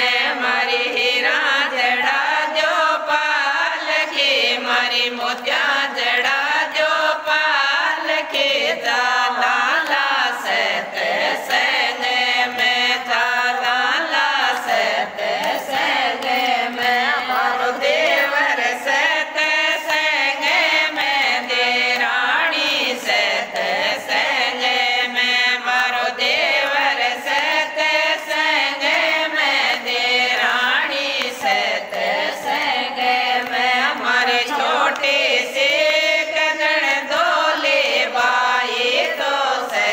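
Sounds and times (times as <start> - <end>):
women singing in unison: 0.0 - 39.9
hand claps: 3.8 - 39.9.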